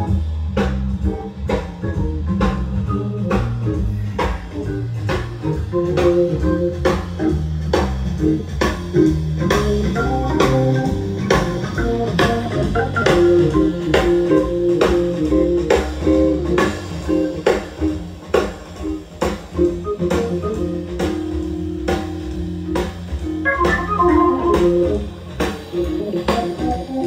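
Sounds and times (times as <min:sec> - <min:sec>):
bass: 0:00.0 - 0:27.0
steady drum beat: 0:00.0 - 0:27.0
electric guitar: 0:01.0 - 0:27.0.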